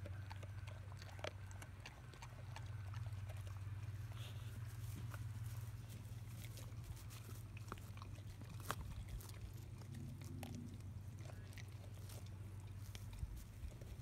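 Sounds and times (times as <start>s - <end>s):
dogs chewing crunches: 0.0s - 14.0s
steady low hum: 0.0s - 14.0s.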